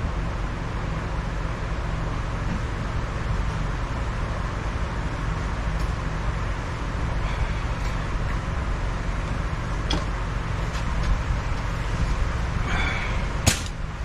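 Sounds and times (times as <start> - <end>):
workshop background rumble: 0.0 - 14.0.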